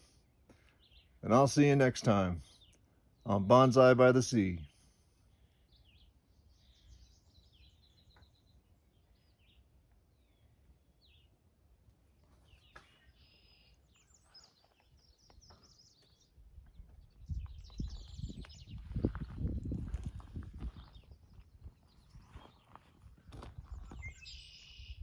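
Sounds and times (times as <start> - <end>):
small birds chirping: 0.0 - 1.7, 2.4 - 3.8, 5.0 - 11.4, 12.2 - 25.0.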